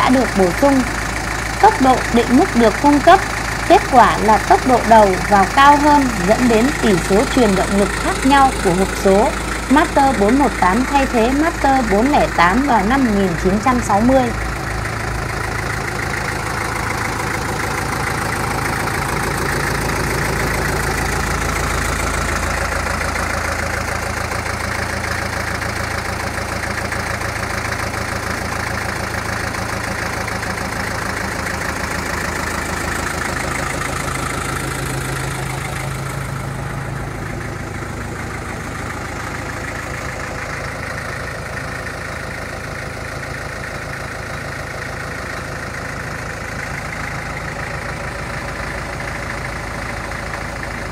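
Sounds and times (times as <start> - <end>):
diesel tractor engine idling: 0.0 - 50.9.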